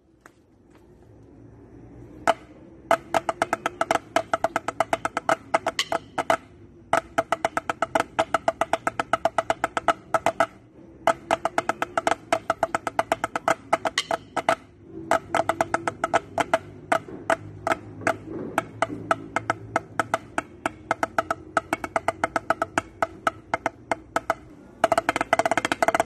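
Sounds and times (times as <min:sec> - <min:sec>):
drumsticks on practice pads: 0:02.2 - 0:26.0.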